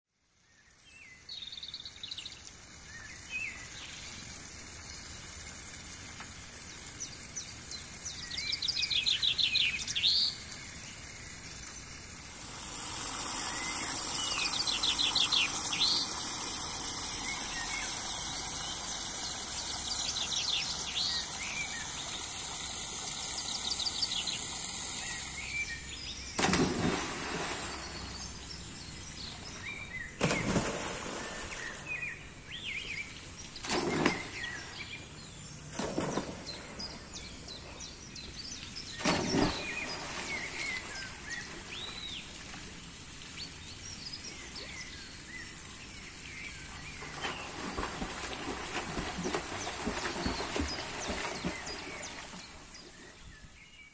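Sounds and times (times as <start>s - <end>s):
water splashing in a pond: 0.3s - 53.6s
songbirds trilling: 6.8s - 42.4s, 43.4s - 53.9s.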